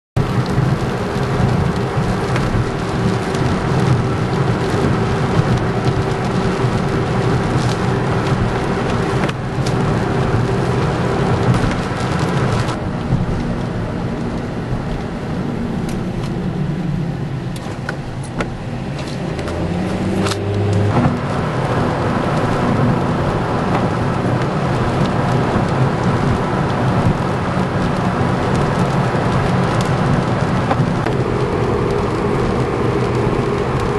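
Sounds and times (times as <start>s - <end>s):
car engine and tyre drone: 0.2s - 33.9s
wind noise: 0.2s - 33.9s.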